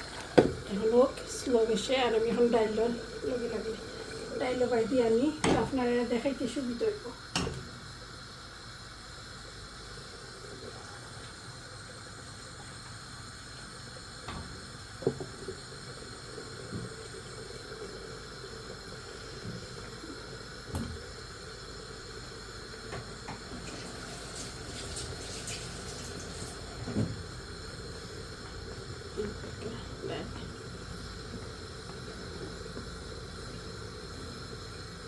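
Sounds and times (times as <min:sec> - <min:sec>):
pot bubbling on stove: 0:00.0 - 0:35.0.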